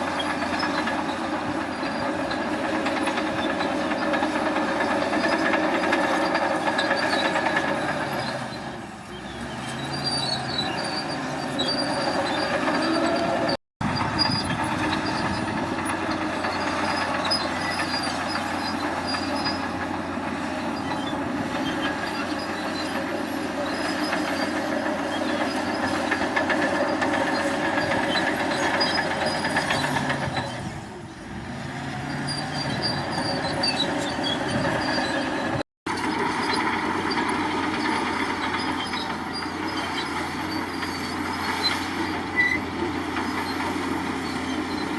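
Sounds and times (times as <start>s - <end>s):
bulldozer engine running: 0.0s - 44.9s
steel tracks clanking and squealing: 0.0s - 44.9s.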